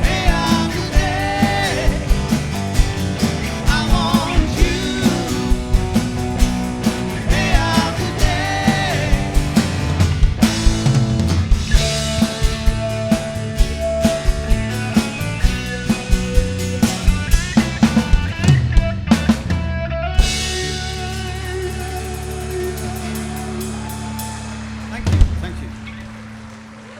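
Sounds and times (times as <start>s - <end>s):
drum kit hits: 0.0s - 26.6s
electric guitar: 0.0s - 26.9s.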